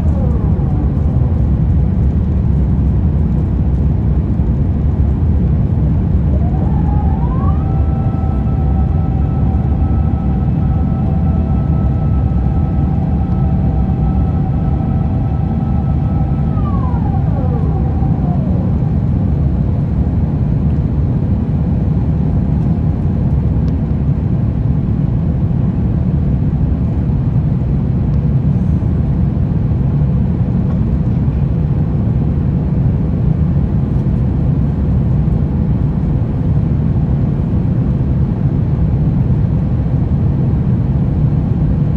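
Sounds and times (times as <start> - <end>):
jet engine roar in cabin: 0.0 - 41.9.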